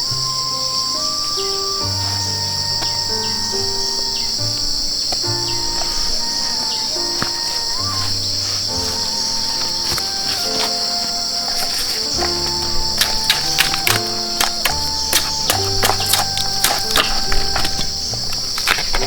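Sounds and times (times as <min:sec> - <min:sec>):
insects droning: 0:00.0 - 0:19.0
soft melodic background music: 0:00.0 - 0:19.0.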